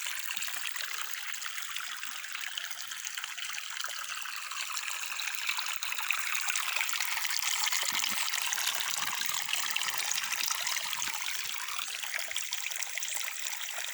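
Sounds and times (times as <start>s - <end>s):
water running and trickling: 0.0s - 13.9s.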